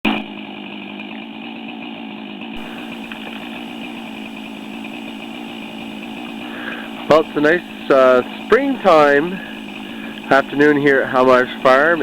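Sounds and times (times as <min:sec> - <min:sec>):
small engine idling: 0:00.1 - 0:12.0.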